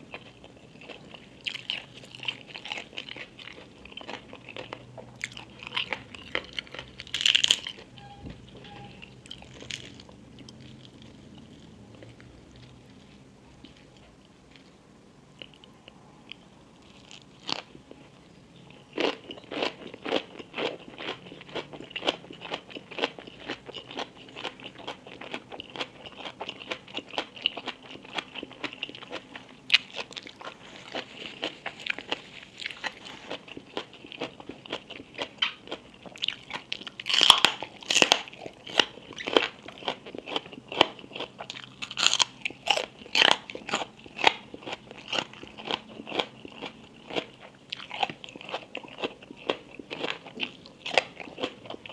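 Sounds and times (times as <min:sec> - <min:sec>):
chewing crisp food: 0:00.0 - 0:08.1, 0:08.7 - 0:14.8, 0:15.4 - 0:51.9.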